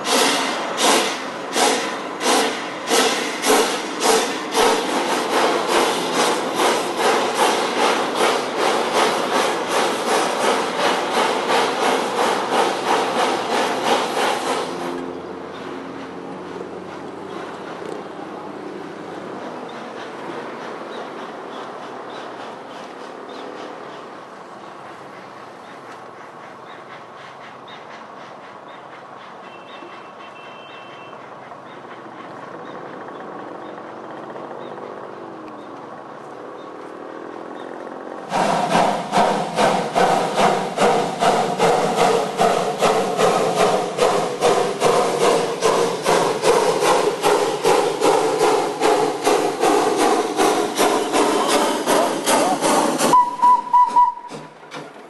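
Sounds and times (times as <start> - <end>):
train running with even beat: 0.0 - 55.0.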